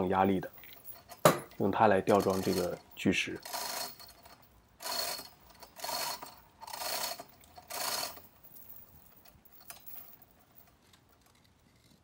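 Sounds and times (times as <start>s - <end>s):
chain hoist pulls: 0.0s - 11.4s.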